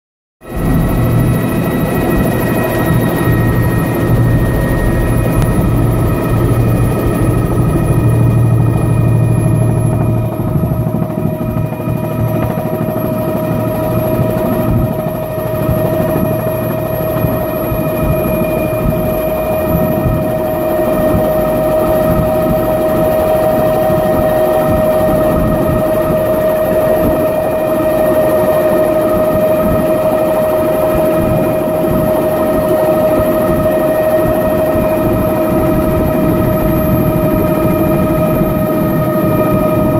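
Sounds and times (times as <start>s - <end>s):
helicopter engine whine: 0.4s - 39.9s.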